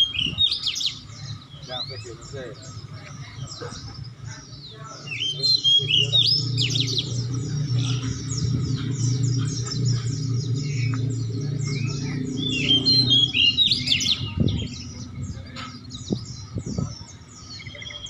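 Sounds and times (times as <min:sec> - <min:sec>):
songbirds chirping: 0:00.0 - 0:18.0
steady low hum: 0:00.0 - 0:18.0.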